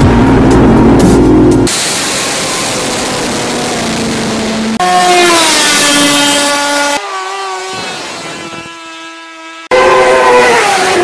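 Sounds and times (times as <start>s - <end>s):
loud engine: 0.0s - 11.0s
racing motorcycle engine: 0.0s - 11.0s.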